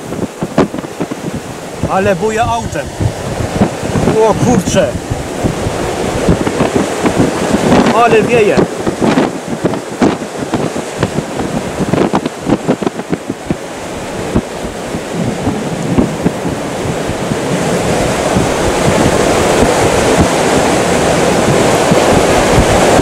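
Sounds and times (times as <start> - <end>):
storm wind and rain rushing: 0.0 - 23.0.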